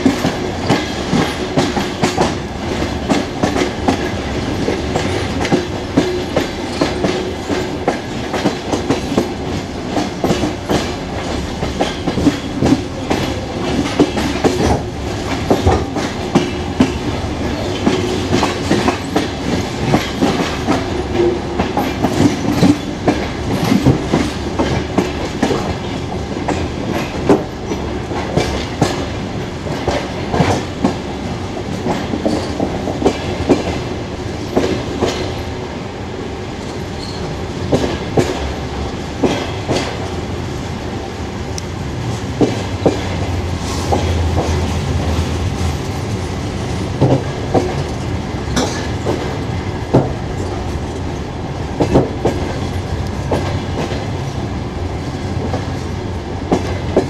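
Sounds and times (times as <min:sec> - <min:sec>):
train wheels clacking over rail joints: 0:00.0 - 0:35.8, 0:36.6 - 0:40.6, 0:42.0 - 0:57.0
train running rumble: 0:00.0 - 0:57.0.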